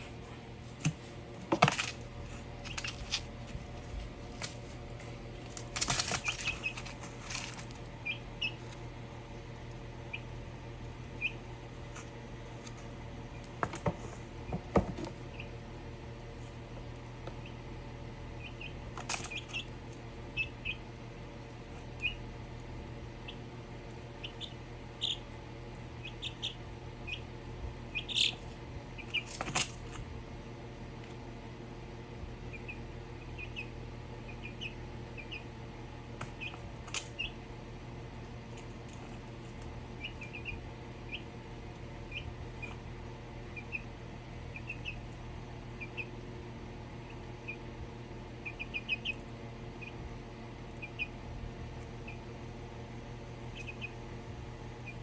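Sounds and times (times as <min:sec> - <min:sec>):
low hum: 0:00.0 - 0:55.0
chicken chirping: 0:02.4 - 0:03.4, 0:05.5 - 0:13.6, 0:14.3 - 0:15.8, 0:17.0 - 0:29.8, 0:32.4 - 0:37.8, 0:38.5 - 0:52.6, 0:53.2 - 0:55.0.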